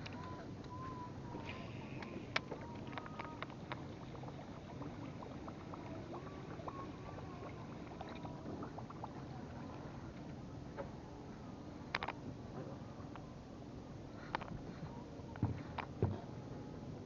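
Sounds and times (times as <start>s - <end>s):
boat engine low rumble: 0.0s - 17.0s.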